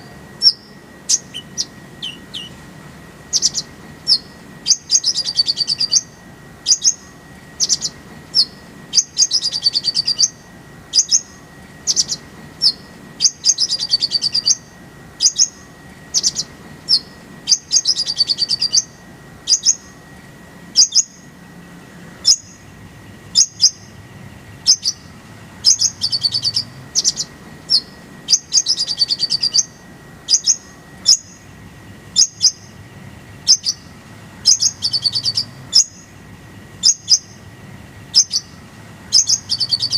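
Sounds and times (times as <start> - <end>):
sunbird chirping and twittering: 0.0 - 39.9.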